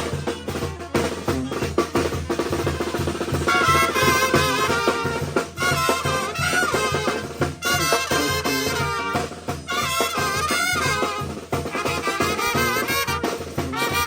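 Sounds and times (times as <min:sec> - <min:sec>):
brass and trumpets playing: 0:00.0 - 0:14.0
drums and bass beat: 0:00.0 - 0:14.0.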